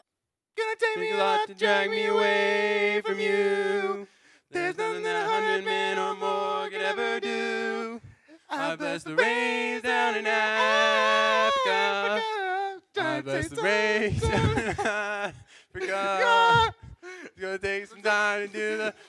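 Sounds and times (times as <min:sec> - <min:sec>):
men singing in harmony: 0:00.6 - 0:19.0.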